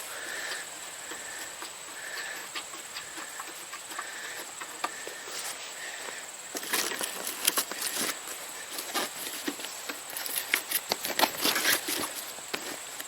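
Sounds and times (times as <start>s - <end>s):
hand tools clicking and scraping: 0.0s - 13.0s.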